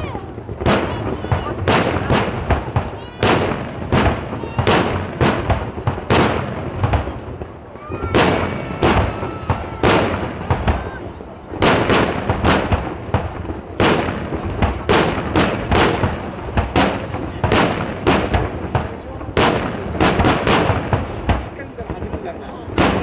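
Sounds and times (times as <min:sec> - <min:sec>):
firework crackling: 0:00.0 - 0:23.0
firework shells bursting: 0:00.0 - 0:23.0.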